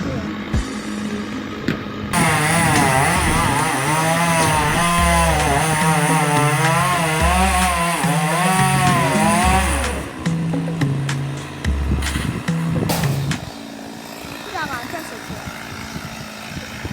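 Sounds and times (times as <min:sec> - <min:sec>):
chainsaw cutting wood: 0:00.3 - 0:16.9.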